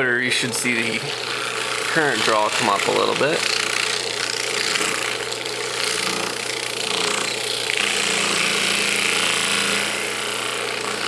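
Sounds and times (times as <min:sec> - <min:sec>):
electric motor humming: 0:00.0 - 0:11.0
rasping mechanical noise: 0:00.0 - 0:11.0.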